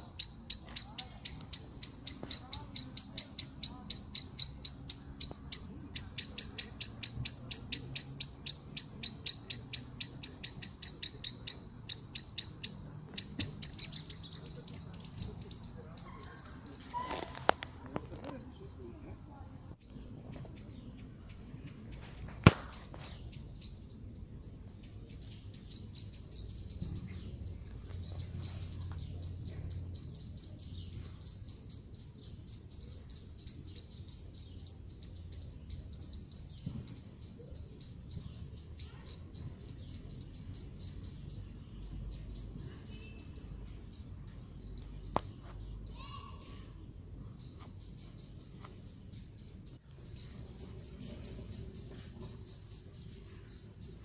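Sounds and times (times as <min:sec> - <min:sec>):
small animal chirping: 0:00.0 - 0:46.7, 0:47.4 - 0:54.0.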